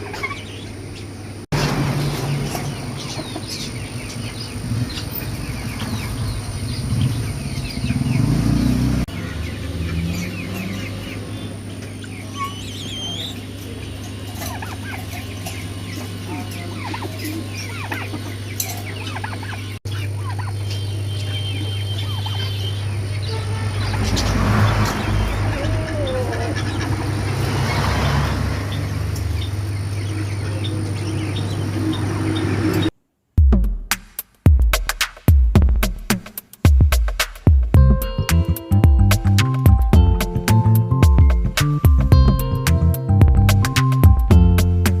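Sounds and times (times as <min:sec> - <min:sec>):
birds chirping and calling: 0:00.0 - 0:32.9, 0:37.8 - 0:45.0.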